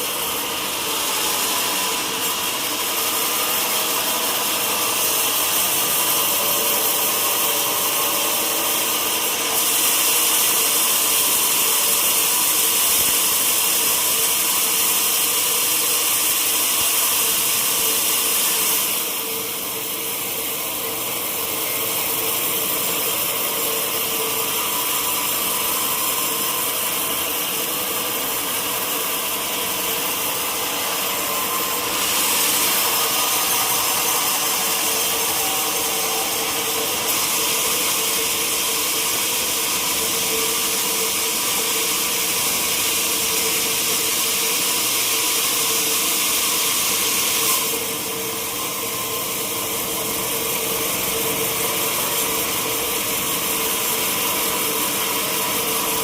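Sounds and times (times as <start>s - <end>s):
saw cutting through log: 0.0s - 56.0s
sawmill saw running: 0.0s - 56.0s.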